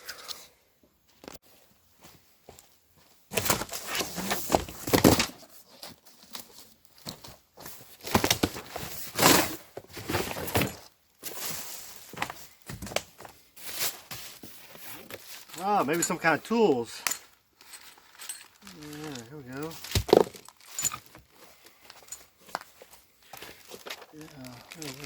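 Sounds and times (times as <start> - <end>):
plastic and paper crinkling: 3.4 - 25.0.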